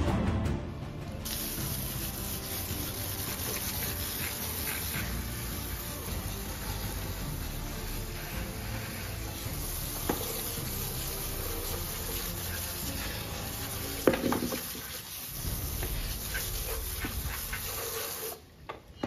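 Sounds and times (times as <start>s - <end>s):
hose water spraying onto concrete: 1.2s - 18.5s.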